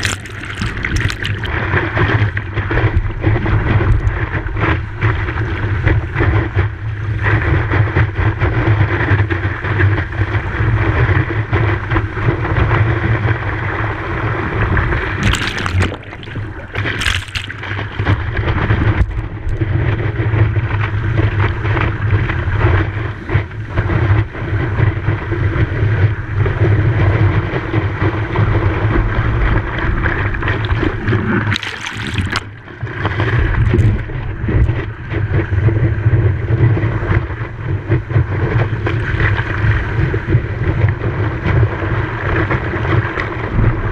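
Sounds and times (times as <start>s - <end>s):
surf washing: 0.0s - 7.4s, 13.1s - 25.9s, 27.0s - 43.9s.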